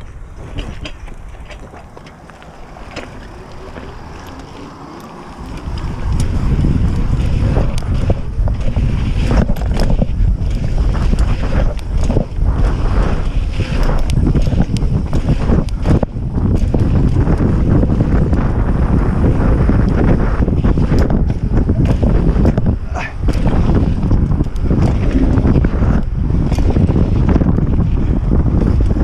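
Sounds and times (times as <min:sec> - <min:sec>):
bike clicks and knocks: 0:00.0 - 0:29.0
tyre roar on asphalt: 0:00.0 - 0:29.0
wind buffeting microphone: 0:00.0 - 0:29.0.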